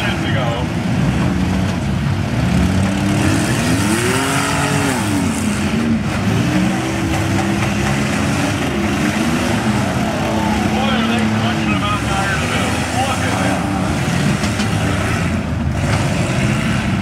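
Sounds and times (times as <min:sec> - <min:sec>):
engines revving hard: 0:00.0 - 0:17.0.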